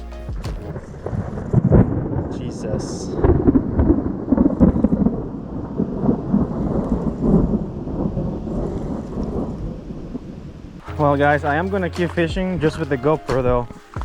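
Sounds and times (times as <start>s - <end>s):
rain falling: 0.0s - 14.0s
thunder rumbling: 0.6s - 13.7s.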